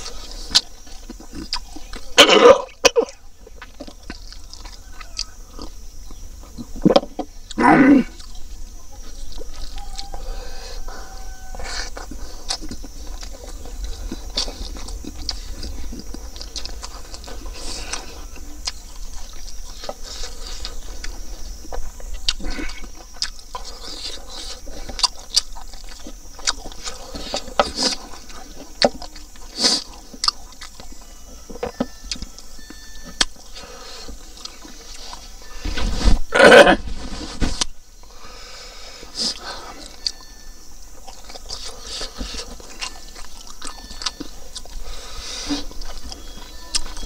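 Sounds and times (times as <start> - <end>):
wet chewing and lip smacks: 0.0 - 10.2, 10.8 - 35.5, 39.0 - 47.0.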